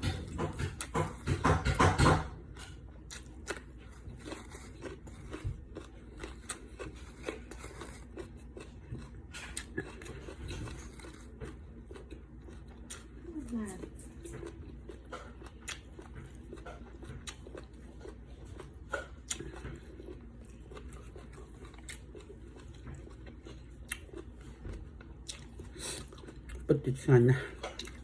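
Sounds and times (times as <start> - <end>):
person chewing and crunching: 0.0 - 28.0.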